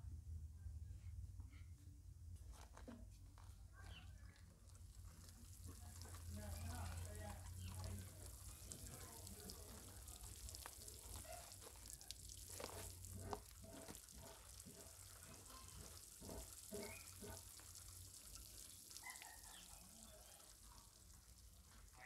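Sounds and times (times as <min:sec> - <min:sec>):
water sprinkling onto soil: 0:03.9 - 0:22.0.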